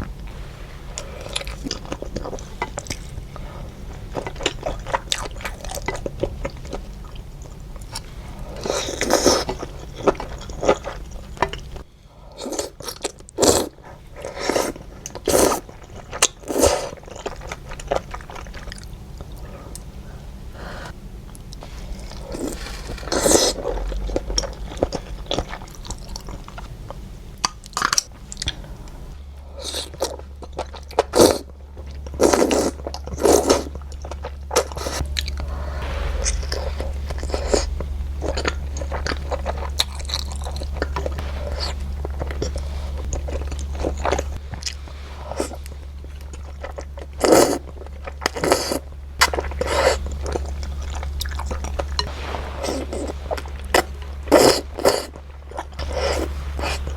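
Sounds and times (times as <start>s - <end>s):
steady low hum: 0.0s - 56.9s
person chewing and crunching: 1.0s - 19.9s, 21.4s - 56.9s.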